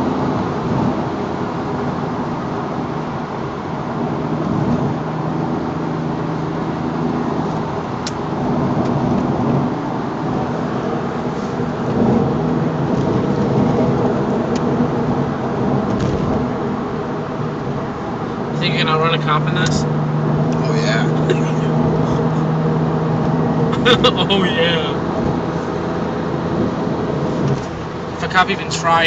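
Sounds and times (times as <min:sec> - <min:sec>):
car engine running: 0:00.0 - 0:29.0
road and wind rumble: 0:00.0 - 0:29.0.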